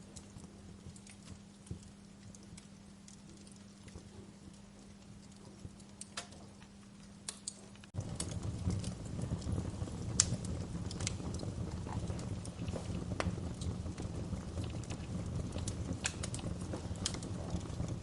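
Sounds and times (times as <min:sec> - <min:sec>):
faint steady hum: 0:00.0 - 0:18.0
flames rumbling: 0:00.0 - 0:18.0
wood fire crackling: 0:00.0 - 0:18.0.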